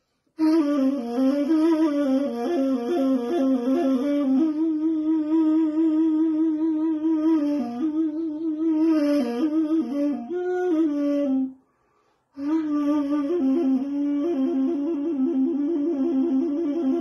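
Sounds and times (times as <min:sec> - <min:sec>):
reed flute melody: 0:00.0 - 0:17.0.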